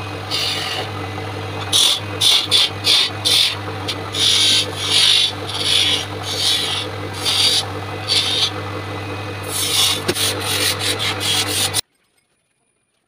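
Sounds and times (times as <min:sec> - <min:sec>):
chisel scraping wood: 0:00.0 - 0:08.6, 0:09.3 - 0:11.8
lathe motor hum: 0:00.0 - 0:11.8.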